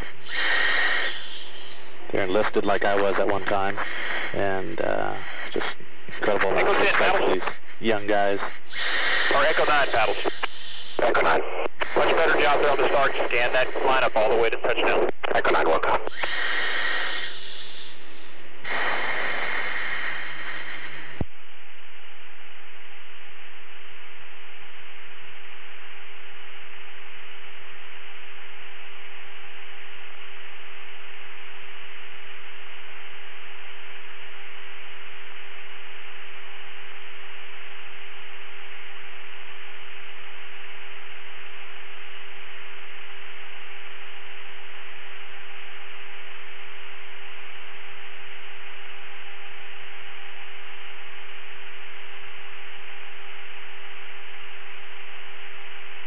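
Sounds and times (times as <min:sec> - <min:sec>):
constant hum tone: 0:00.0 - 0:56.0
radio static hiss: 0:00.0 - 0:56.0.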